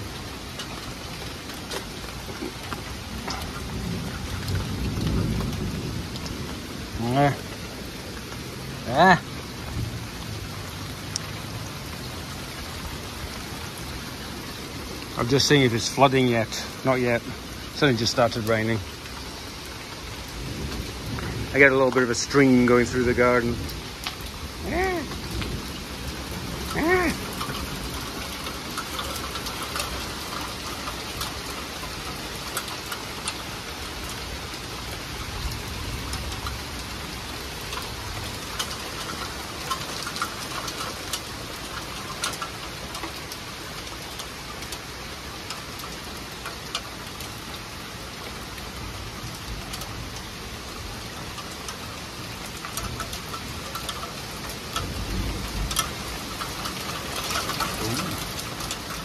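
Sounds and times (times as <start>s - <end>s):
rain falling on trees and deck: 0.0s - 59.0s
raindrops ticking: 0.0s - 59.0s.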